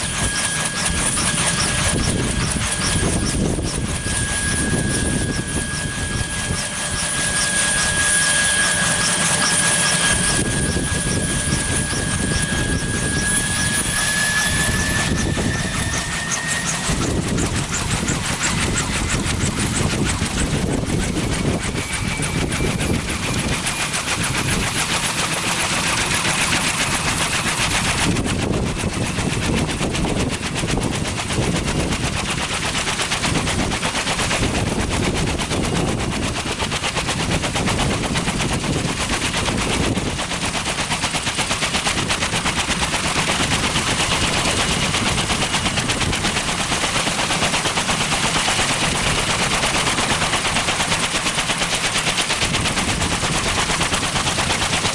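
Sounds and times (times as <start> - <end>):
helicopter rotors chopping: 0.0 - 54.9
turbine engine whine: 0.0 - 54.9.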